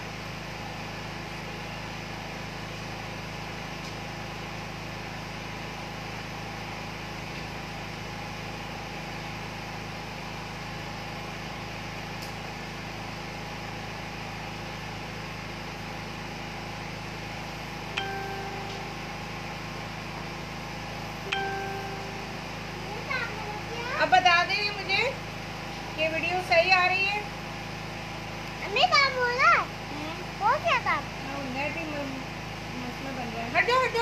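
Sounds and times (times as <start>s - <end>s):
steady background hum and hiss: 0.0s - 34.0s.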